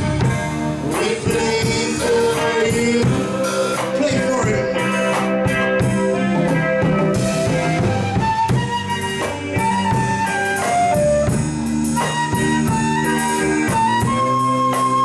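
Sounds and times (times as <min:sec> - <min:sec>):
bass guitar: 0:00.0 - 0:15.0
drum kit: 0:00.0 - 0:15.0
electric guitar: 0:00.0 - 0:15.0
flute melody: 0:00.0 - 0:15.0.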